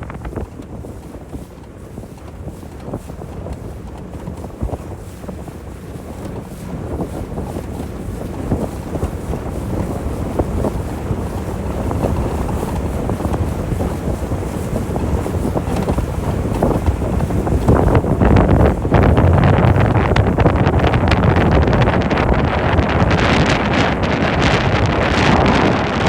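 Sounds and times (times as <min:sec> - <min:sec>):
low rumble of boat: 0:00.0 - 0:26.0
wind buffeting microphone: 0:00.0 - 0:26.0.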